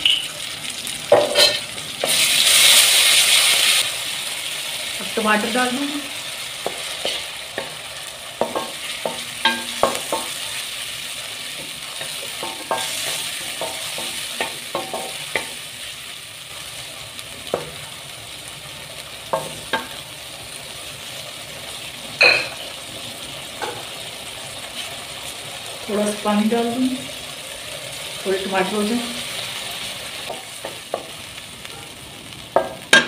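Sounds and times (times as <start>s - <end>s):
tomatoes sizzling in oil: 0.0s - 33.0s.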